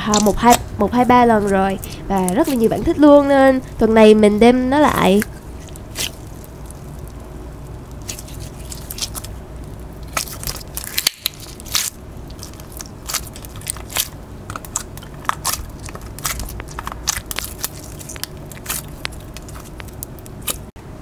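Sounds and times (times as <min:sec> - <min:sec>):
slime crackling and popping: 0:00.0 - 0:03.0, 0:05.0 - 0:20.7.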